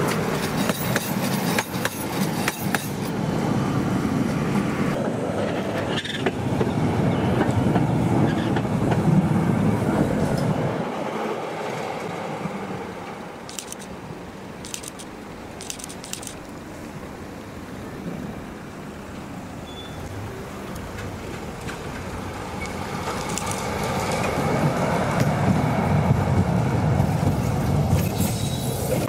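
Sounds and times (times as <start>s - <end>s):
tram rumbling past: 0.0s - 29.0s.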